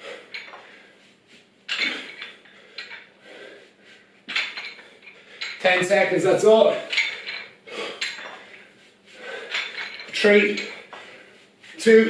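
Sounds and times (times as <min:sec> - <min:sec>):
dumbbells clinking and rattling: 0:00.0 - 0:00.9, 0:01.7 - 0:03.4, 0:04.2 - 0:12.0.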